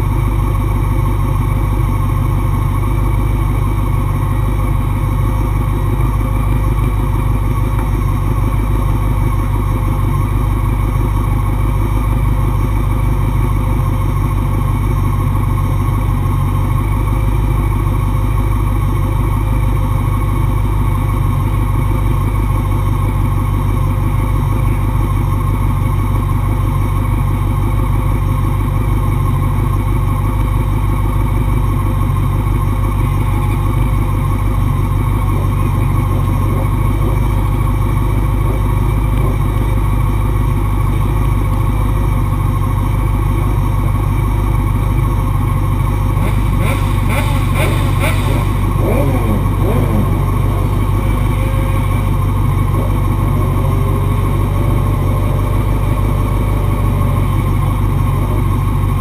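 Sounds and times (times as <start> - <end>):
motorcycle engine running loudly: 0.0 - 59.0.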